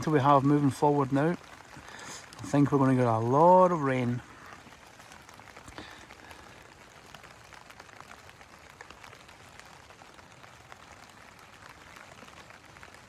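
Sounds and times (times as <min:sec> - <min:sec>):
heavy rain on tent fabric: 0:00.0 - 0:13.0
raindrops ticking on tent: 0:00.0 - 0:13.0.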